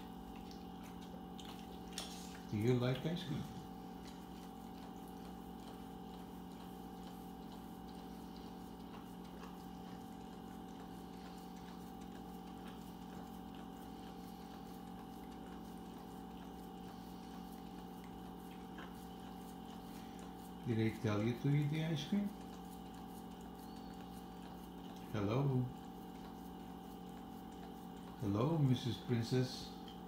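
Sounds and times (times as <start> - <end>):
constant low hum: 0.0 - 30.0
dog licking wetly: 0.0 - 30.0.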